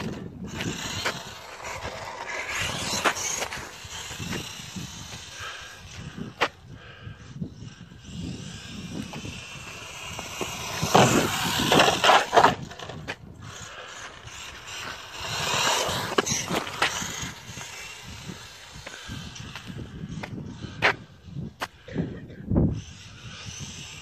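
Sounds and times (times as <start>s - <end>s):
electric motor whine: 0.0s - 20.9s.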